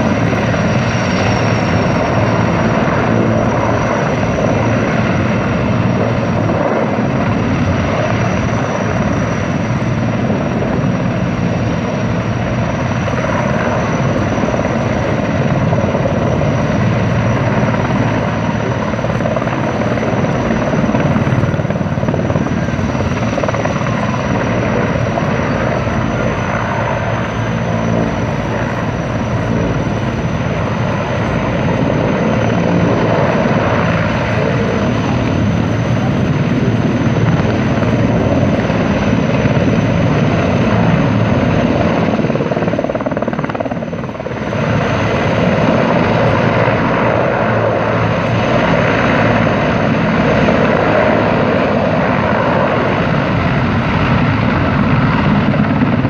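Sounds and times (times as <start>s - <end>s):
helicopter rotor and engines: 0.0s - 56.0s.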